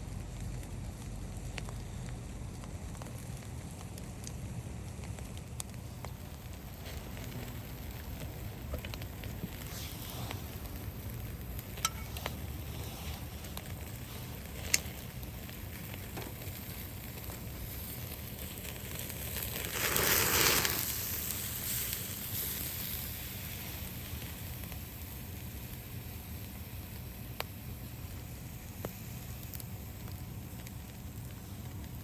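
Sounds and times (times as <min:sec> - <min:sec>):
campfire crackles: 0:00.0 - 0:32.0
steak sizzling on a grill: 0:06.4 - 0:32.0.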